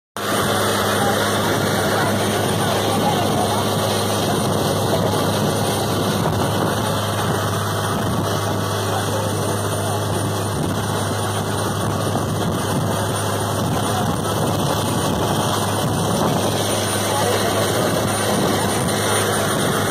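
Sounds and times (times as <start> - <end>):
boat engine running: 0.2 - 19.9
wind and water rushing: 0.2 - 19.9.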